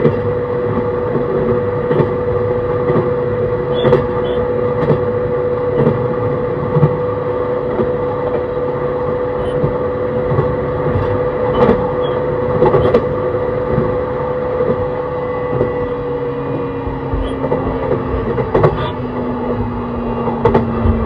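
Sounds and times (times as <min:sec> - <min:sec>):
rumbling train wheels: 0:00.0 - 0:21.0
train motor and inverter tone: 0:00.0 - 0:21.0
wheels clacking over rail joints: 0:00.0 - 0:21.0.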